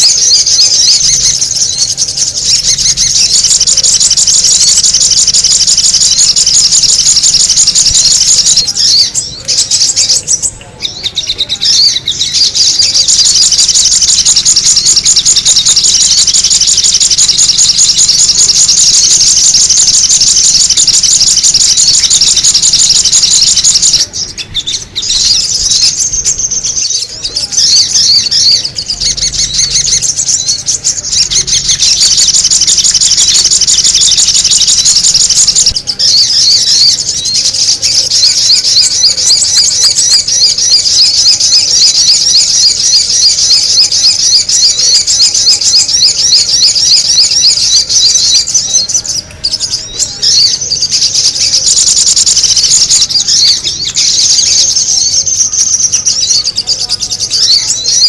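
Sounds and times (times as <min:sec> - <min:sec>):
bird chattering high chirps: 0:00.0 - 0:58.0.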